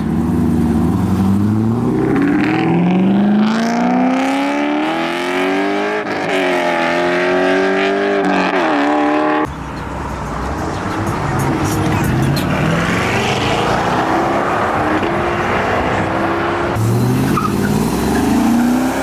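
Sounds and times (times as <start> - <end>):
quieter steady car sound: 0.0 - 6.0, 8.6 - 19.0
car engine accelerating hard: 0.0 - 19.0.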